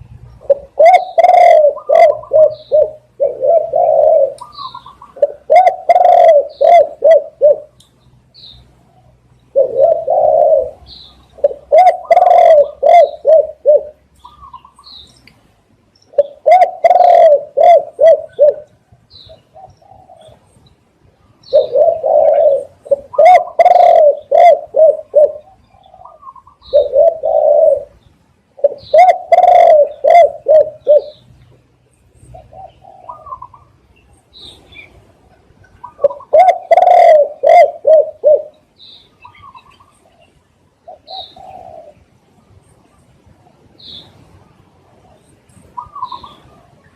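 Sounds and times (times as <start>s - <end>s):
small birds chirping: 0.0s - 46.9s
dove cooing: 0.4s - 7.8s, 8.8s - 14.9s, 16.1s - 20.6s, 21.4s - 31.3s, 32.2s - 33.8s, 34.4s - 42.1s, 45.0s - 46.8s.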